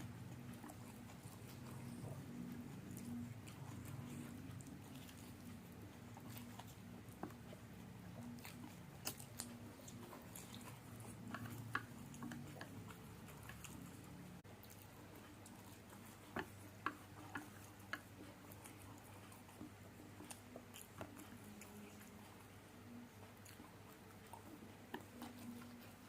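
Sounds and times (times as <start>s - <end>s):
low steady hum: 0.0s - 26.0s
quiet chewing: 0.0s - 26.0s.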